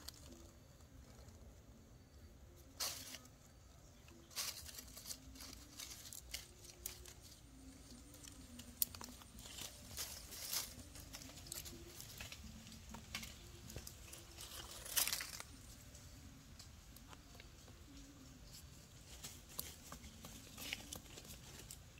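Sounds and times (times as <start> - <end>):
dry leaves and cloth rustling: 2.6 - 21.9.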